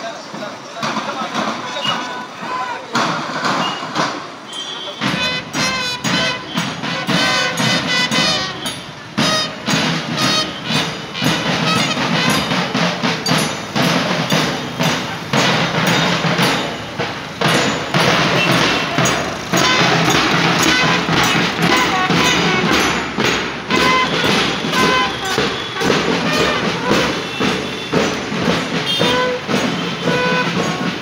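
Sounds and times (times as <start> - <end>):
marching band drums and cymbals: 0.0 - 31.0
bugles playing a tune: 1.3 - 31.0.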